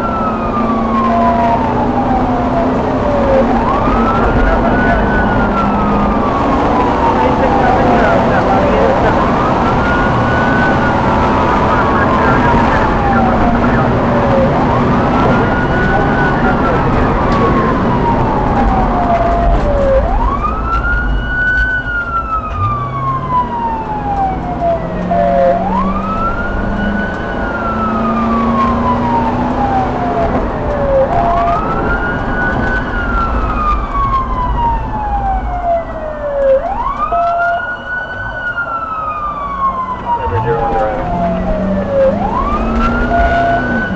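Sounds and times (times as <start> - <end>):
car engine and road noise: 0.0 - 43.9
police siren wailing: 0.0 - 43.9.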